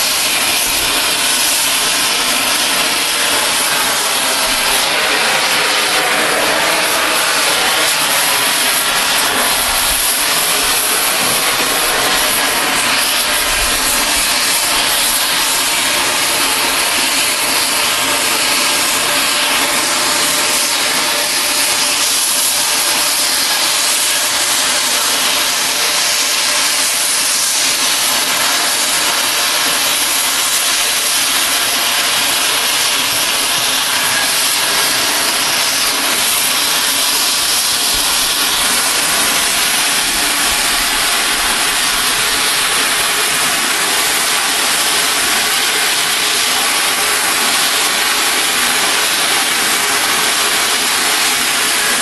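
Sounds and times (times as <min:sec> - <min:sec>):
cutting torch hissing: 0:00.0 - 0:52.0.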